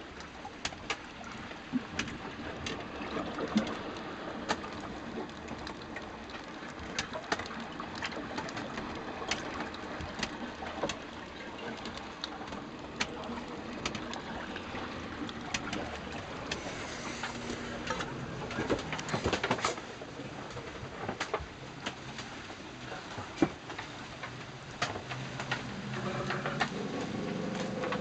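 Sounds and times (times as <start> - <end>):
rain on boat deck: 0.0 - 28.0.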